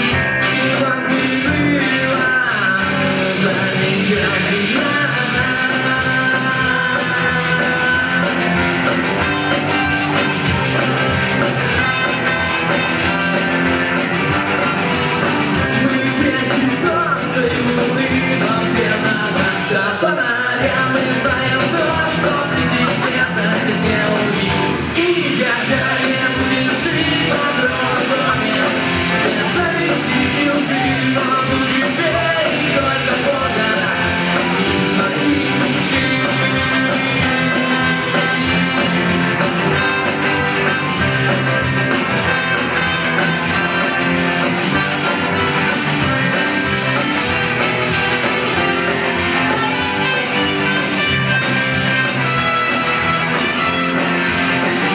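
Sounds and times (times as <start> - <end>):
electric guitar: 0.0 - 54.9
person singing: 0.0 - 54.9
steady drum beat: 0.0 - 54.9.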